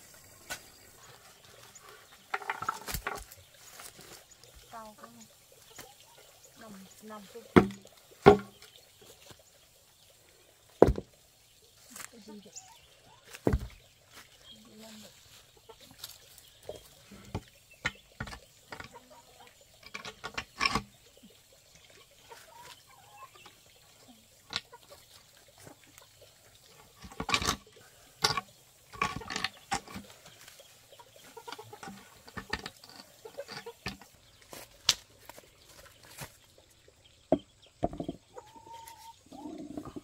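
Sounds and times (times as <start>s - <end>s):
farmyard animal calls: 0.0s - 11.2s, 11.9s - 40.0s.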